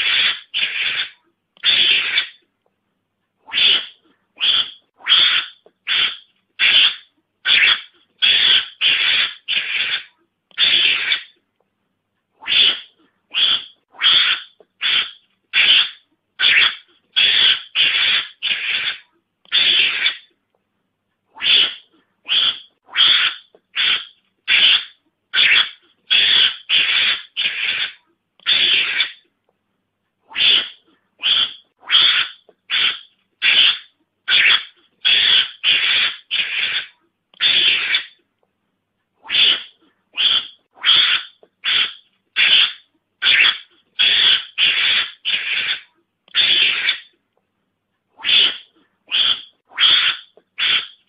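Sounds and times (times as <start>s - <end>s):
raspy hiss-like animal calls: 0.0s - 2.4s, 3.5s - 11.4s, 12.5s - 20.3s, 21.4s - 29.2s, 30.4s - 38.2s, 39.3s - 47.1s, 48.2s - 51.0s.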